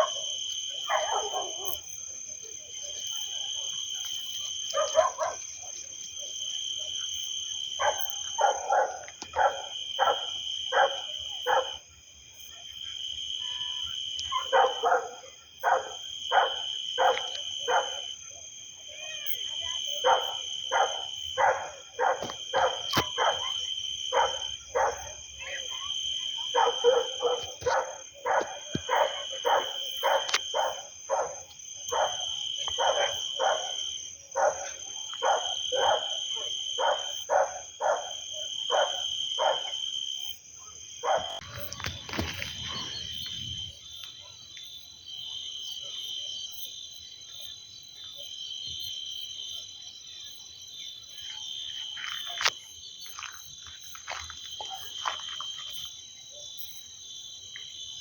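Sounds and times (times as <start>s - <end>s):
shrill insect trills: 0.0s - 58.0s.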